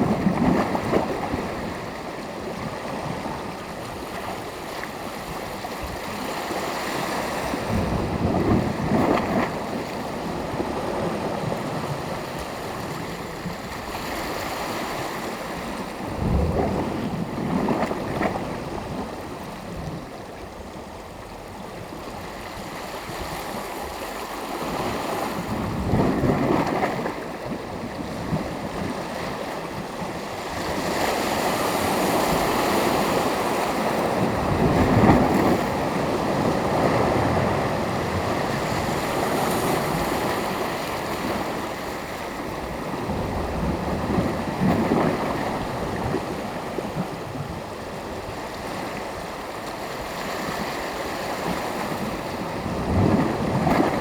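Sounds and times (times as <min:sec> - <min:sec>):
steady sea noise: 0:00.0 - 0:54.0.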